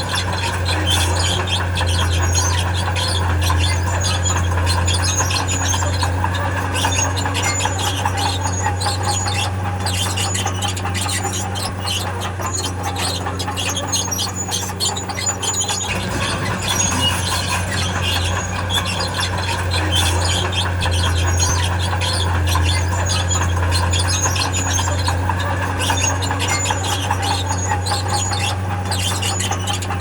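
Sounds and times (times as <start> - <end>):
diesel engine running: 0.0 - 30.0
tracks squealing and squeaking: 0.0 - 30.0.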